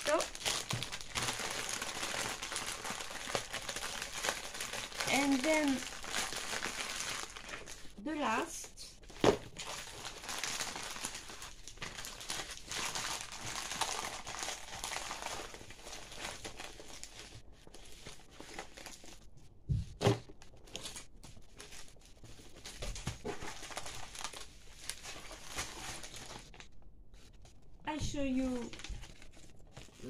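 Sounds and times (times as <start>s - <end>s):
plastic packaging crinkling: 0.0s - 8.4s, 9.0s - 19.3s, 20.2s - 26.8s, 28.4s - 30.0s.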